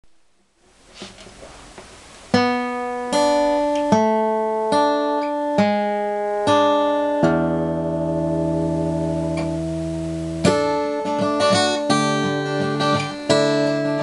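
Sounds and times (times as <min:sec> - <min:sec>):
acoustic guitar chords: 0:00.9 - 0:14.0.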